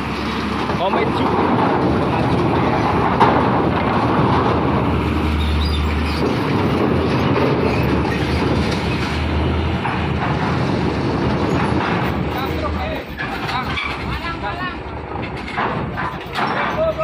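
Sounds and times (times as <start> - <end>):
trailer rolling over steel: 0.0 - 17.0
truck diesel engine: 0.0 - 17.0.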